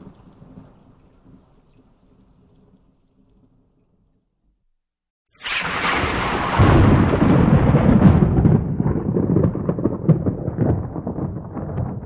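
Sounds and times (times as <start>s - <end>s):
thunderclap with rolling rumble: 0.0s - 3.7s, 5.4s - 12.0s.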